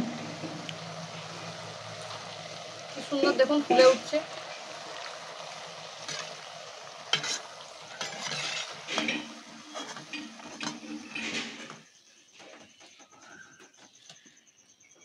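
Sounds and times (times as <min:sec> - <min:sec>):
frying in hot oil sizzling: 0:00.0 - 0:12.6.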